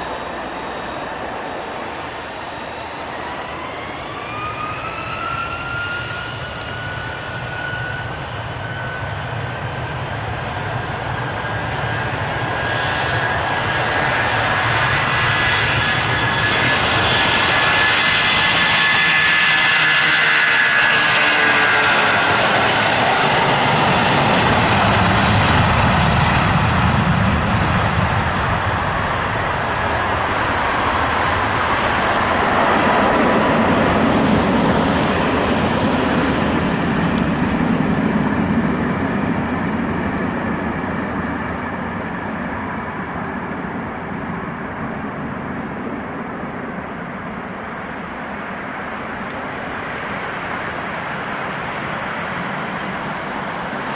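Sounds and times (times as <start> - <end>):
jet engines roaring at takeoff: 0.0 - 53.9.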